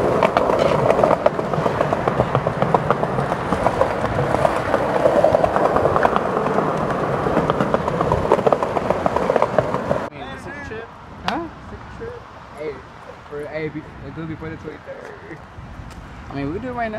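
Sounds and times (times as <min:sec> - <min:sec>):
skateboard wheels rolling on concrete: 0:00.0 - 0:16.9.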